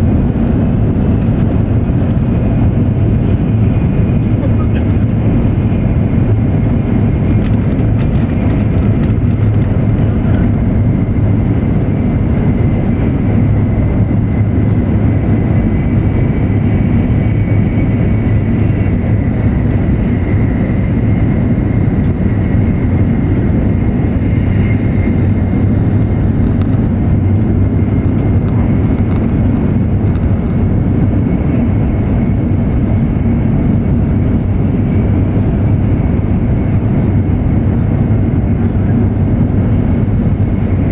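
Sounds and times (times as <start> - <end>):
train running rumble: 0.0 - 40.9.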